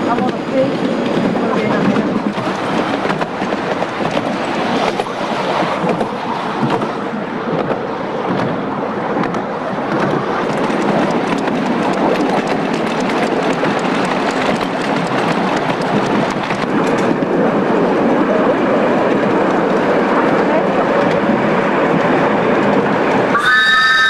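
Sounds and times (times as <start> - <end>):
miniature train rumbling on track: 0.0 - 24.0.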